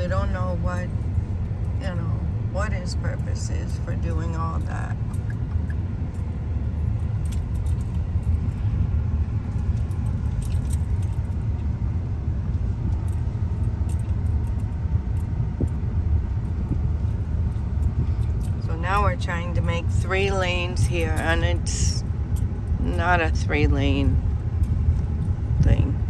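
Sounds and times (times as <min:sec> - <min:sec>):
engine and tyre rumble: 0:00.0 - 0:26.0
light rattles and clicks: 0:00.0 - 0:26.0.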